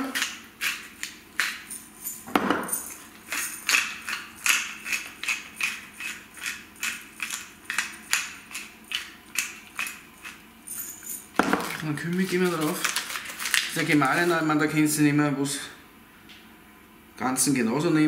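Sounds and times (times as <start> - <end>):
pepper mill grinding: 0.0 - 14.6.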